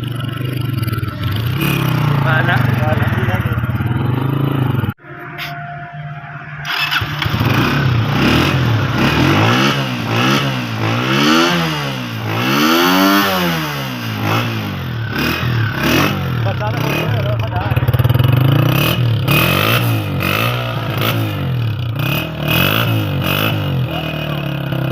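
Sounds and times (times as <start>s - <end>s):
motorcycle engine idling and revving: 0.0s - 5.0s, 6.6s - 24.9s.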